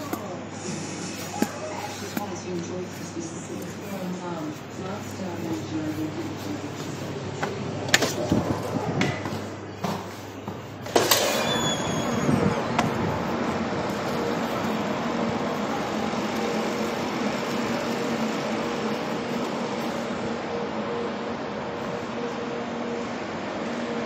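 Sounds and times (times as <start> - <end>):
low hum of vehicles and machinery: 0.0 - 24.0.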